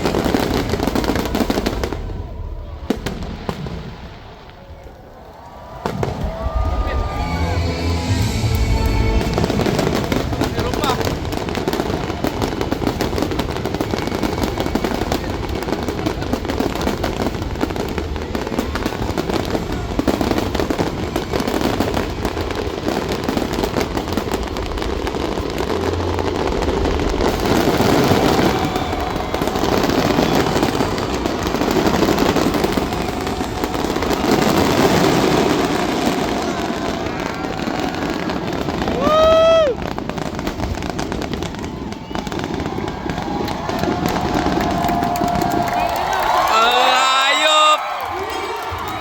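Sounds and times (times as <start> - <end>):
fireworks crackling: 0.0 - 49.0.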